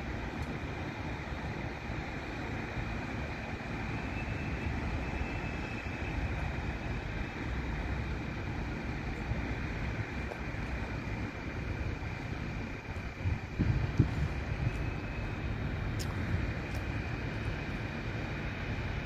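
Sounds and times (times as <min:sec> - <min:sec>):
distant train rumble: 0:00.0 - 0:19.0
faint high whine: 0:00.0 - 0:19.0.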